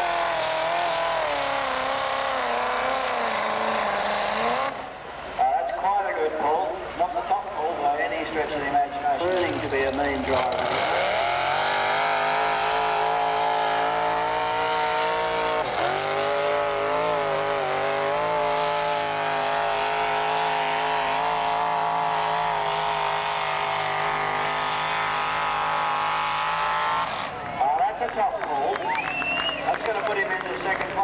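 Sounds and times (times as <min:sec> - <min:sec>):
tractor engine at high revs: 0:00.0 - 0:05.1, 0:09.2 - 0:31.0.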